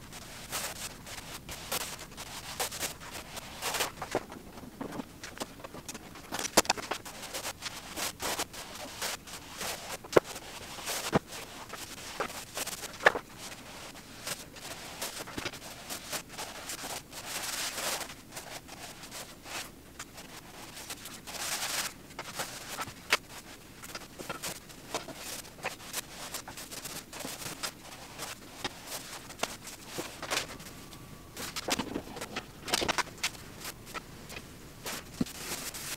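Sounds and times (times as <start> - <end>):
paintbrush swishing on wall: 0.1 - 4.2, 7.0 - 30.8, 34.8 - 35.9.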